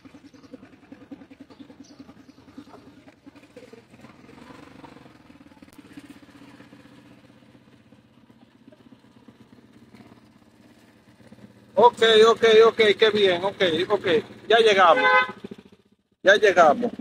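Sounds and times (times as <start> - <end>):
small engine humming: 0.0 - 15.9.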